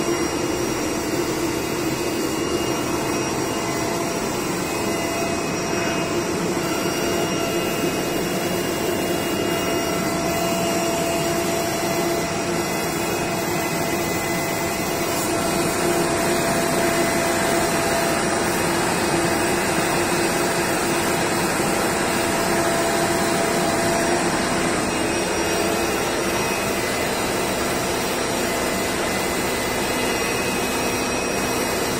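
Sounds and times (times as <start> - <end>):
cutting machine whirring: 0.0 - 31.9.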